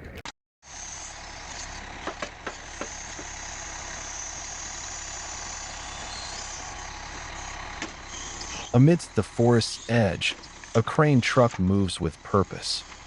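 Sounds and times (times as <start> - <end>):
truck engine running: 0.6 - 13.0.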